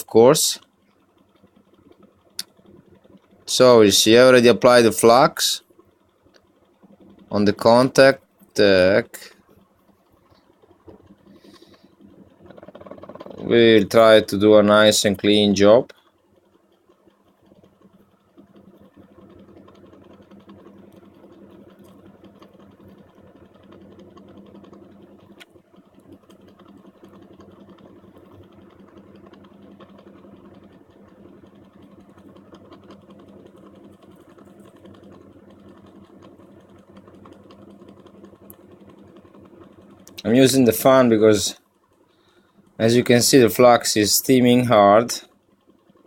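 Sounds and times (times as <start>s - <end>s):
small electric fan whirring: 0.0s - 46.0s.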